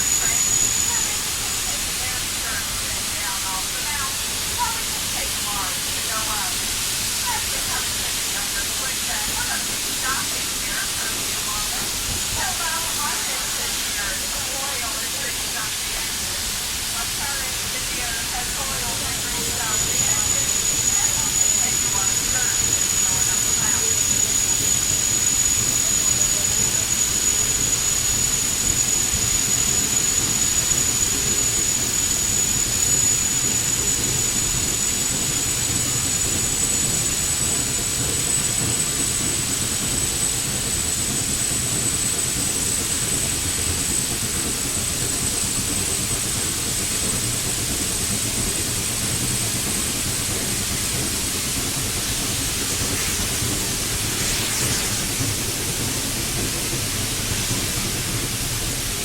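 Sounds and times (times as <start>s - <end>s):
steam train rumble and hiss: 0.0s - 59.0s
thin high whine: 0.0s - 59.0s.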